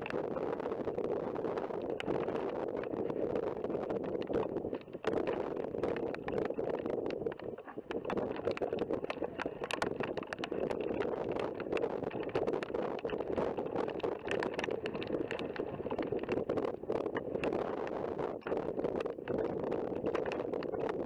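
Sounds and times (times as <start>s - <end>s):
crackling clicks: 0.0s - 21.0s
wind buffeting microphone: 0.0s - 21.0s.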